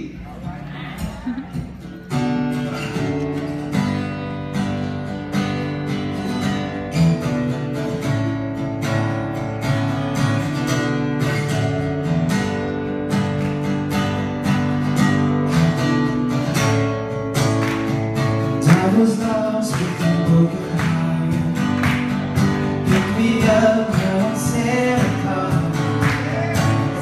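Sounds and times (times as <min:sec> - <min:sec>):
acoustic guitar strumming chords: 0:01.0 - 0:27.0.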